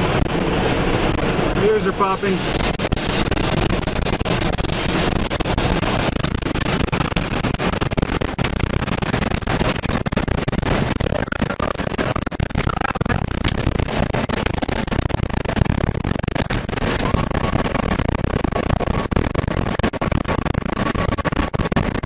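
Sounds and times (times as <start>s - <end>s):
tornado wind rushing: 0.0s - 22.0s.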